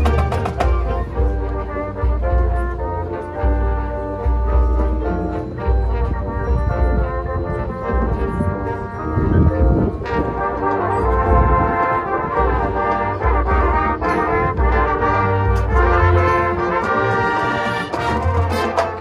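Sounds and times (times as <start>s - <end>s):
brass chords: 0.0s - 19.0s
low bass: 0.0s - 19.0s.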